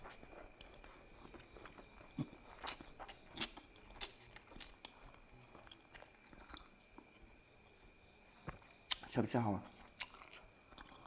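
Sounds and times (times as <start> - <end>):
mouth clicks and crunches: 0.0 - 6.8, 8.5 - 11.0
soft chewing: 0.0 - 11.0.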